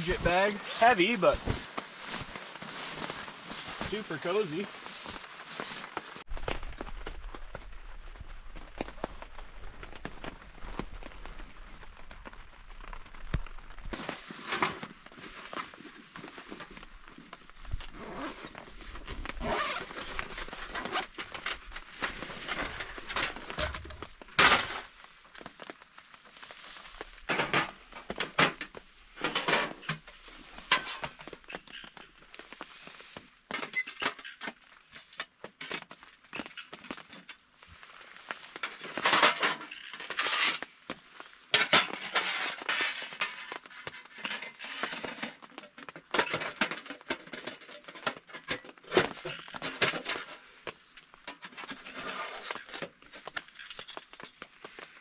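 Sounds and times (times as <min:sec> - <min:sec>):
camping gear rustling and knocking: 0:00.0 - 0:55.0.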